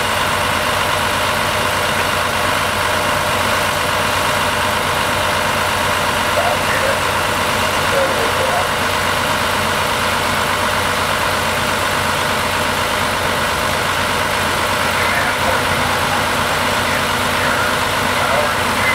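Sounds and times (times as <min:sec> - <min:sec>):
diesel engine idling: 0:00.0 - 0:18.9.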